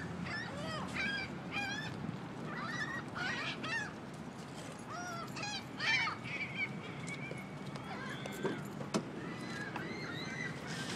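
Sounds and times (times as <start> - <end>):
birds squawking and honking: 0.0 - 4.0, 4.9 - 10.9.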